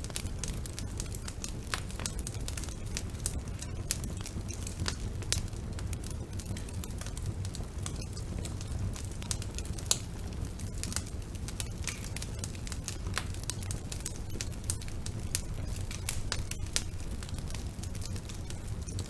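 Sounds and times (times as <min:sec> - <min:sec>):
low rumble of fire: 0:00.0 - 0:19.0
wood fire crackling: 0:00.0 - 0:19.0.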